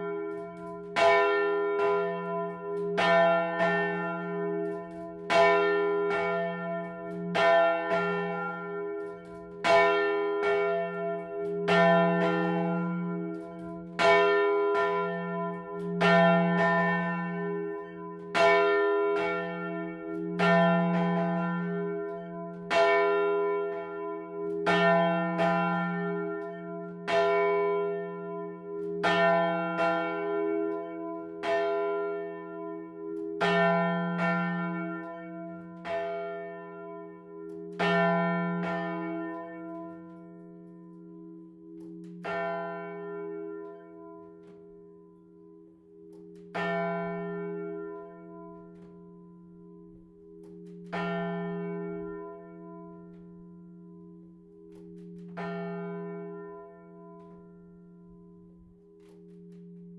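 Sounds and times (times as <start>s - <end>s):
church bell ringing: 0.0s - 59.9s.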